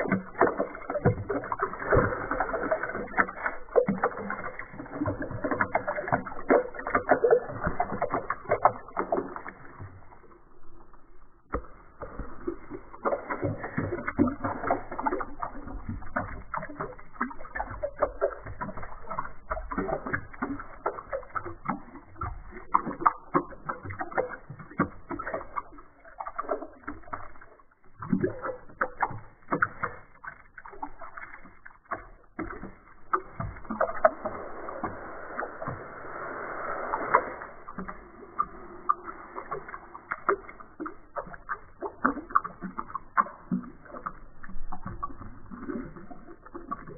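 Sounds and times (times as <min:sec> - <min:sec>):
slowed water plops and gurgles: 0:00.0 - 0:46.9.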